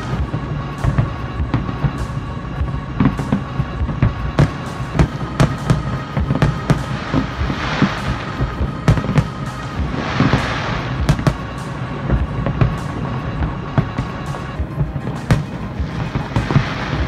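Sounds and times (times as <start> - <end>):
fireworks booming and cracking: 0.0 - 17.0
fireworks crackling glitter: 0.0 - 17.0.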